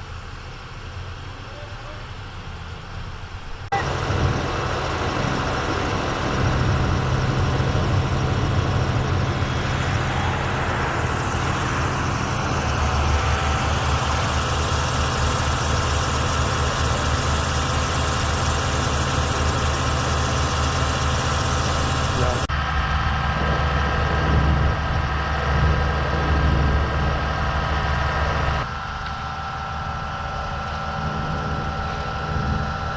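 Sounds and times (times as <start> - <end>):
vehicle engine idling: 0.0 - 32.9.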